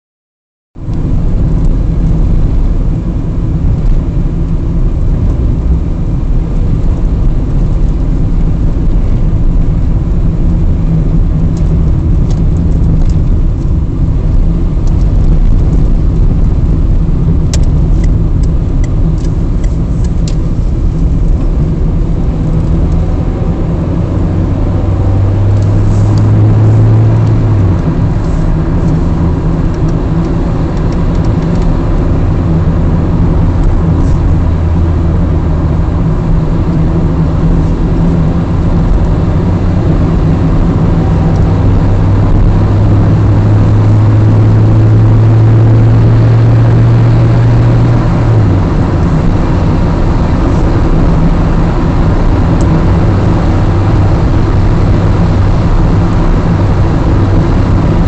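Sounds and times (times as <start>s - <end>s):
car rumbling on the move: 0.8s - 58.0s.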